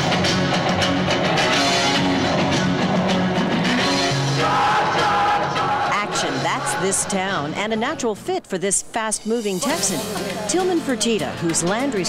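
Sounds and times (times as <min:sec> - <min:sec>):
loud rock music: 0:00.0 - 0:07.6, 0:09.6 - 0:12.0.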